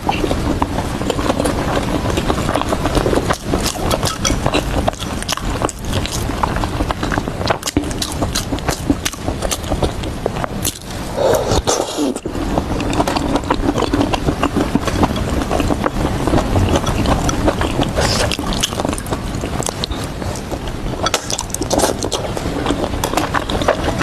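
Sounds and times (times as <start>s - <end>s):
mouth chewing: 0.0s - 24.0s.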